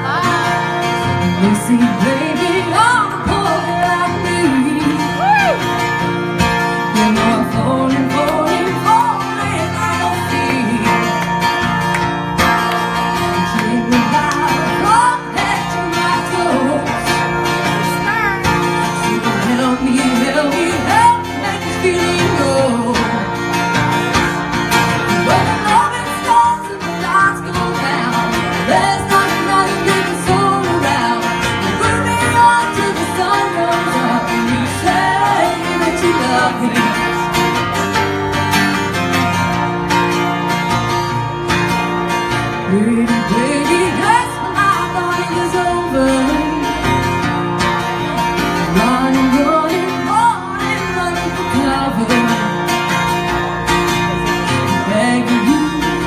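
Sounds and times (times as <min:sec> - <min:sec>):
electric guitar: 0:00.0 - 0:56.0
person singing country song: 0:00.0 - 0:56.0.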